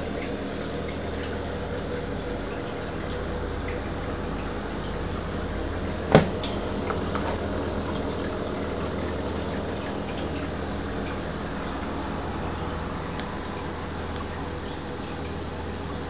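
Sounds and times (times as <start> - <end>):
aquarium water flow and hum: 0.0 - 16.0.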